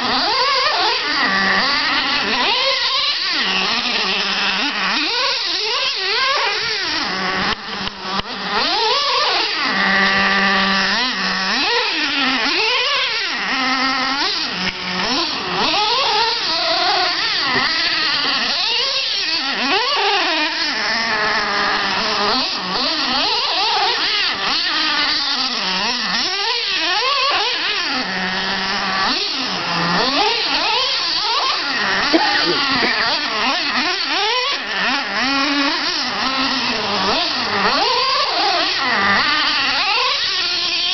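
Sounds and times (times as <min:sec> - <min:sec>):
small nitro engines revving: 0:00.0 - 0:40.9.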